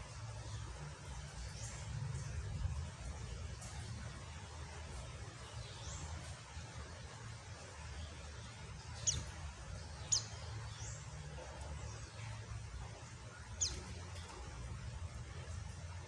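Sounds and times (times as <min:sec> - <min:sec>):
low hum: 0:00.0 - 0:16.0
rain hiss: 0:00.0 - 0:16.0
bird chirping: 0:00.1 - 0:16.0.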